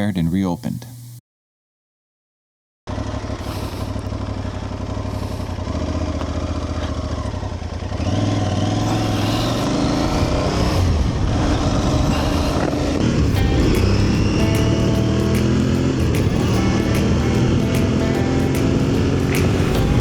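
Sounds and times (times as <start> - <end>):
motorcycle engine running: 2.9 - 20.0.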